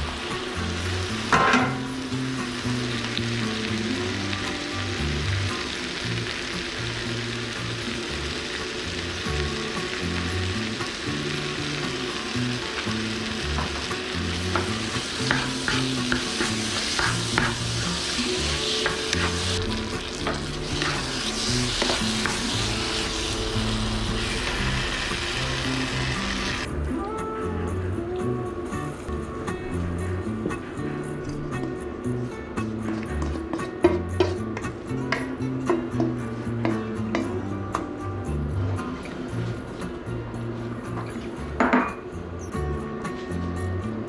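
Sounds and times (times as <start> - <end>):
food sizzling in a pan: 0.0 - 27.7, 29.0 - 39.8
background music: 0.0 - 44.0.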